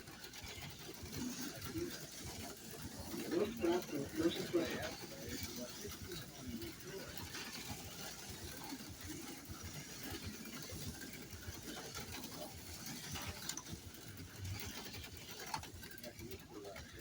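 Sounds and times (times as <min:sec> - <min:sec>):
light rapid clicking: 0:00.0 - 0:17.0
small electric motors whirring: 0:00.0 - 0:17.0.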